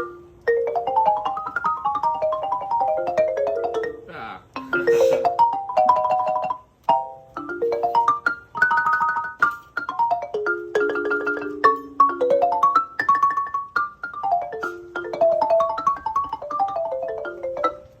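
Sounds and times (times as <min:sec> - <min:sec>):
marimba played with mallets: 0:00.0 - 0:18.0.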